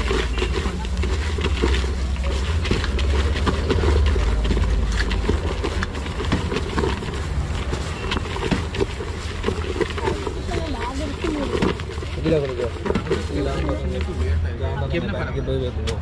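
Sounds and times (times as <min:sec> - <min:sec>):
puffed rice crackling and rustling: 0:00.0 - 0:15.0.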